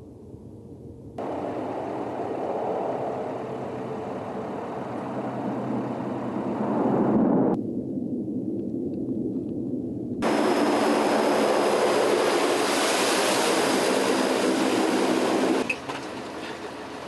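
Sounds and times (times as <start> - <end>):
turboprop engines and propellers: 0.0 - 17.0.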